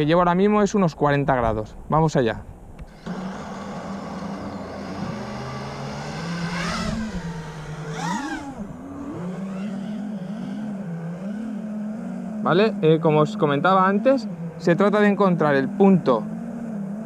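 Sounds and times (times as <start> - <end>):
quadcopter motors buzzing: 2.8 - 17.0.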